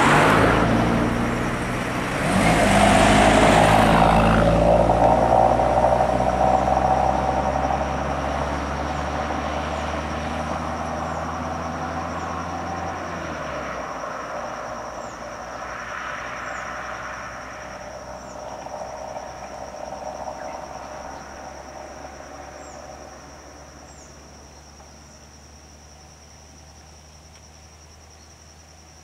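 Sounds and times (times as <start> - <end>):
road traffic engines: 0.0 - 29.0
high-pitched insect trill: 2.4 - 29.0.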